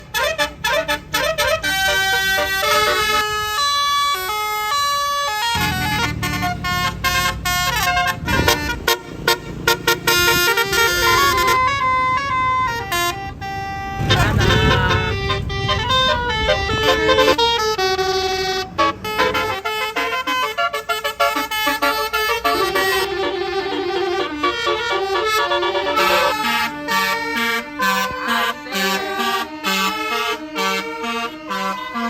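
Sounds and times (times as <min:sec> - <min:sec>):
bus horn playing a melody: 0:00.0 - 0:32.0.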